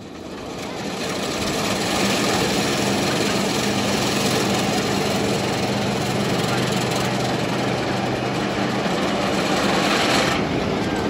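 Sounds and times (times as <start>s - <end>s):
loud mechanical drone: 0.0s - 11.0s.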